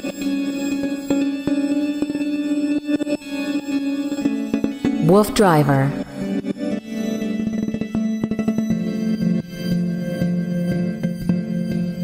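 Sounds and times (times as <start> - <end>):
music with held tones: 0.0 - 12.0.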